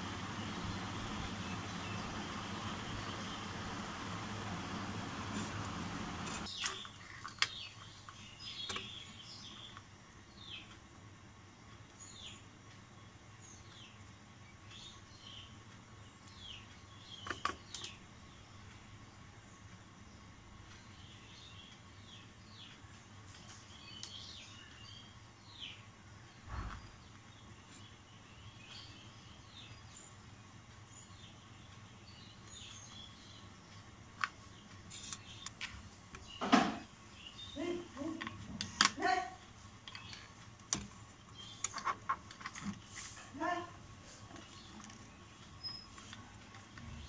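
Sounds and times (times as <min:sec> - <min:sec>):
bird chirping: 0:00.0 - 0:10.8, 0:11.9 - 0:35.6, 0:36.2 - 0:47.0
steady hiss: 0:00.0 - 0:47.0.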